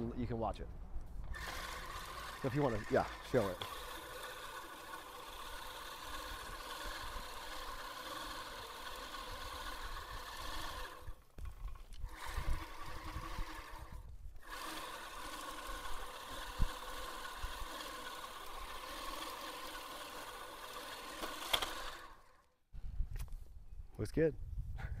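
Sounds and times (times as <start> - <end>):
reel mower whirring: 1.2 - 22.6.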